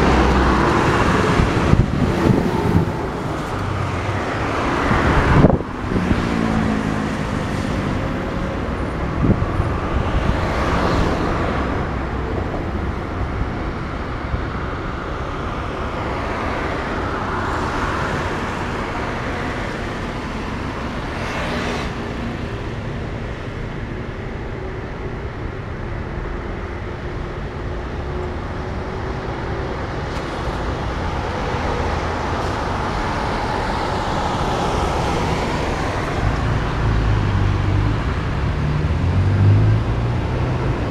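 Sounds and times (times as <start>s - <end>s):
highway traffic: 0.0s - 40.9s
vehicles passing: 0.0s - 40.9s.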